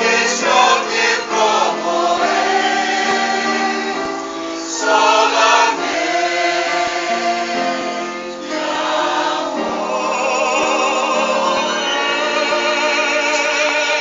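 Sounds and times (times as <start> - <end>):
choir singing in harmony: 0.0 - 14.0
keyboard accompaniment: 0.0 - 14.0.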